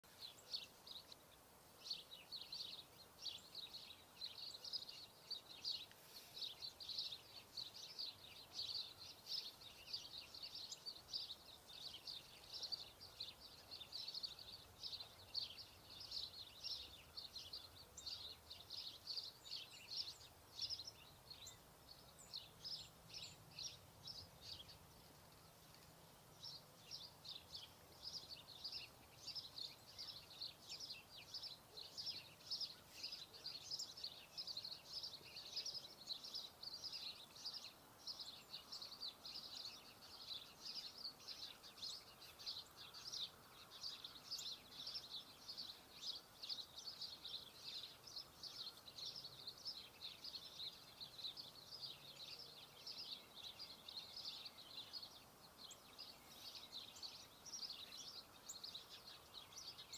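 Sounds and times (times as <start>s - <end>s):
songbirds chirping and twittering: 0.0s - 59.9s.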